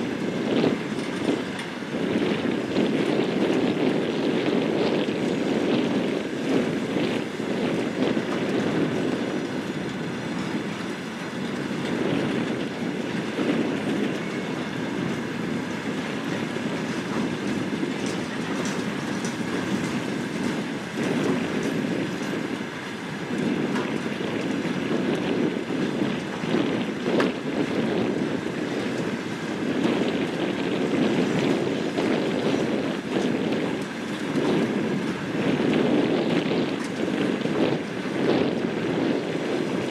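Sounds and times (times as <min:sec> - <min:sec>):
diesel train rumbling: 0:00.0 - 0:39.9
wheels clicking over rails: 0:00.1 - 0:39.9.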